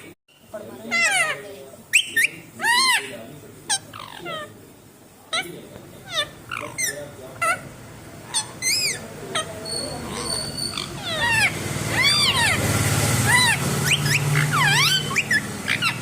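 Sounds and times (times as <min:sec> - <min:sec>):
parrot chirping and squawking: 0:00.0 - 0:16.0.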